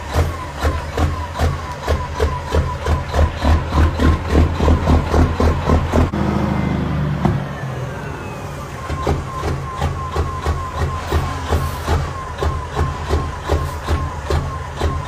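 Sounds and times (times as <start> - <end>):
truck diesel engine pulling away: 0.0 - 15.0.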